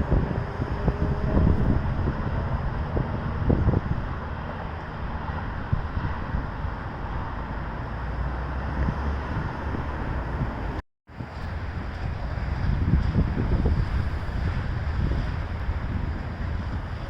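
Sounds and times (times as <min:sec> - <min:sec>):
traffic rumble: 0:00.0 - 0:17.0
wind buffeting microphone: 0:00.0 - 0:17.0.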